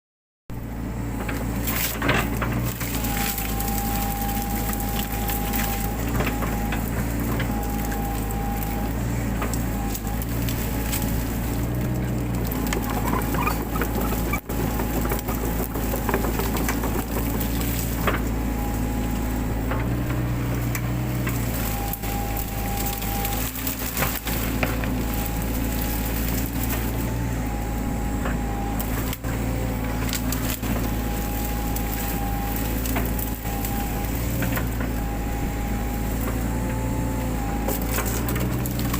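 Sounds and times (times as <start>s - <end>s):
excavator diesel engine running: 0.5s - 38.9s
wood and brush cracking: 1.0s - 38.9s.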